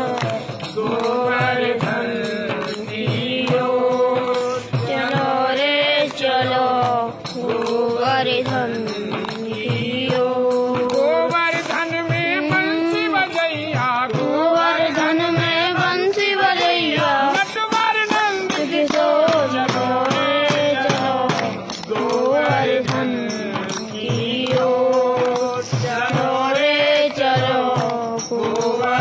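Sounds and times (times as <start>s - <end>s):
hand clapping: 0.0s - 29.0s
jingling frame tambourine: 0.0s - 29.0s
men singing devotional song: 0.0s - 29.0s.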